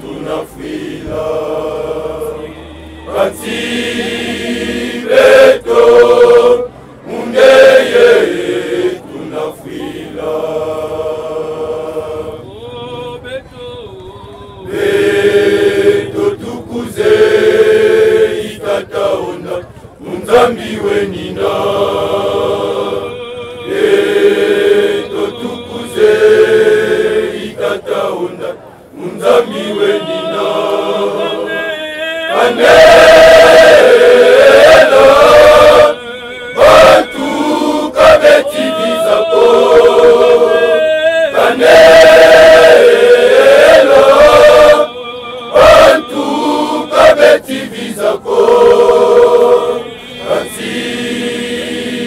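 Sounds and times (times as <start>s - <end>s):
choir singing: 0.0s - 13.2s, 14.6s - 52.0s.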